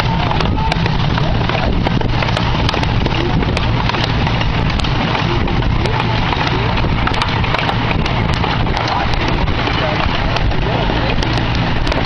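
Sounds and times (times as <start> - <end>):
train engine low rumble: 0.0 - 12.0
wheels clacking on track: 0.0 - 12.0.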